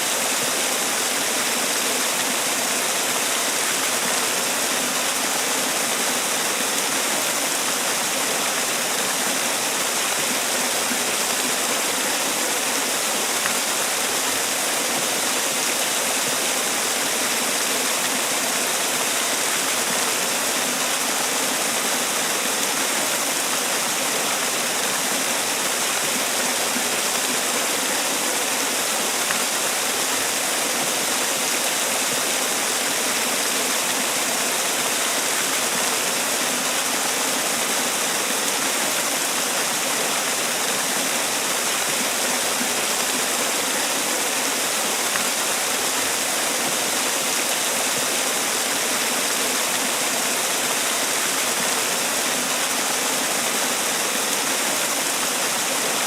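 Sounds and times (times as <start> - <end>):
waterfall splashing: 0.0 - 56.0.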